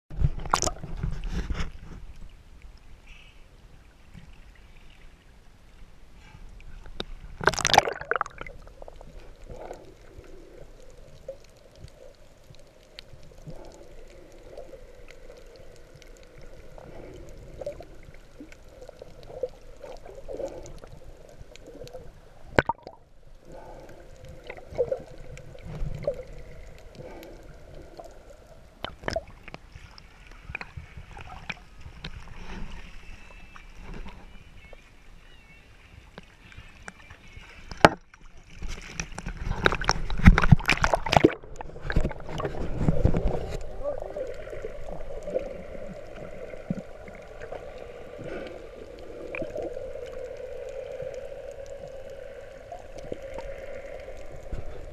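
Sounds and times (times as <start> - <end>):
muffled underwater water movement: 0.1 - 54.9.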